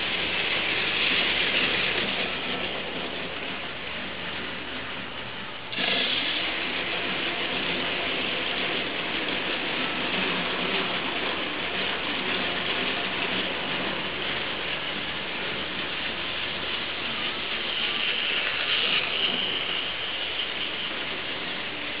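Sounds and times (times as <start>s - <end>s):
toy train motor whirring: 0.0s - 22.0s.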